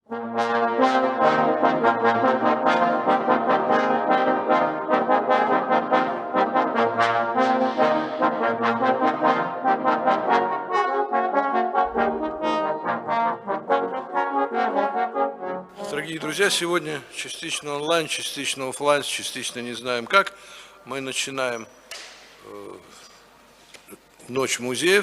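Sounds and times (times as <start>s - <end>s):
brass instrumental music: 0.0s - 21.6s.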